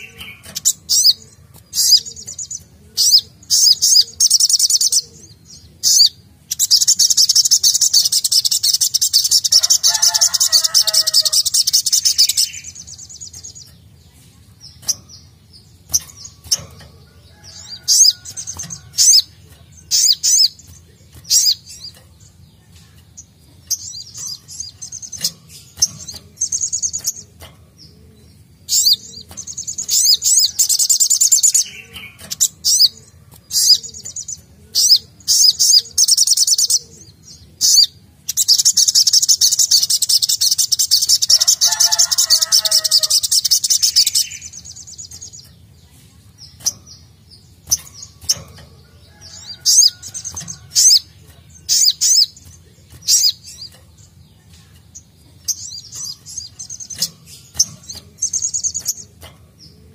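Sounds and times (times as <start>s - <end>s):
bird singing rapid trills: 0.0s - 59.9s.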